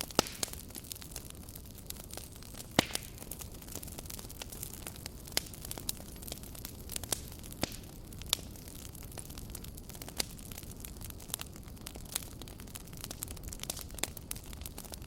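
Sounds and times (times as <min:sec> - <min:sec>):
campfire crackling and popping: 0:00.0 - 0:15.0
low fire rumble and hiss: 0:00.0 - 0:15.0.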